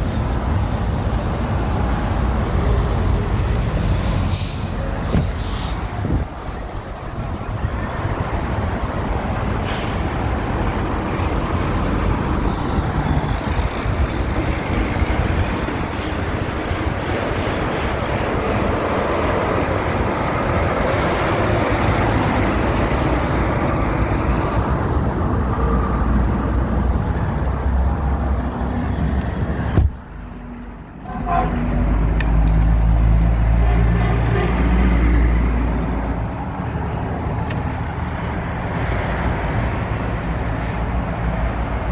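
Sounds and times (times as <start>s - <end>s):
heavy trucks passing: 0.0s - 41.9s
road traffic: 0.0s - 41.9s.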